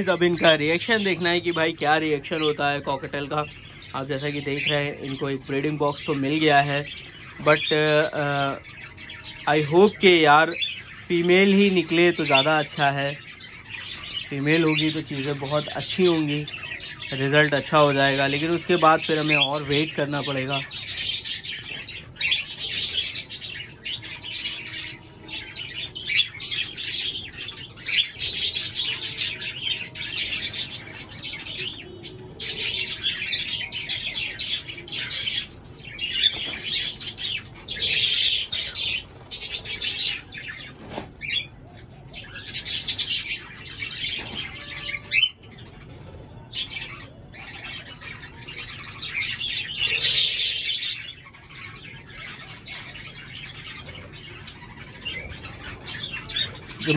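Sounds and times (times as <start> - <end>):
birds chirping and squawking: 0.0 - 56.9.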